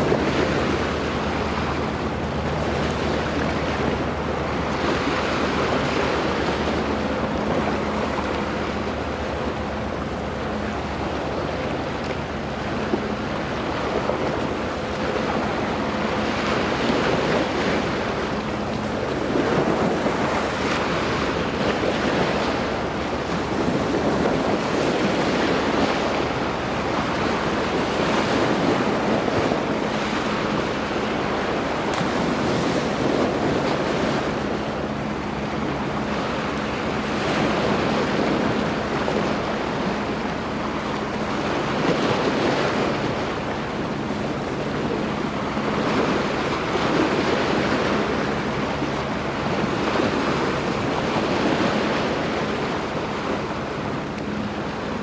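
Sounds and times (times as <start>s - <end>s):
small waves washing ashore: 0.0s - 55.0s.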